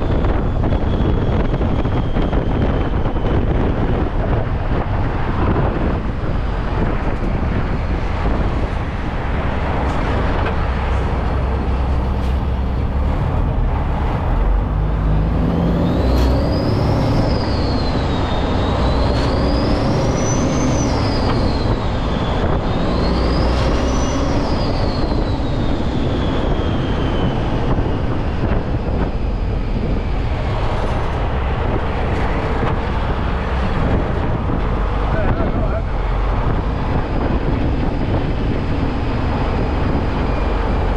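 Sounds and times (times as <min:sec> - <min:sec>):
truck road and engine noise: 0:00.0 - 0:40.9.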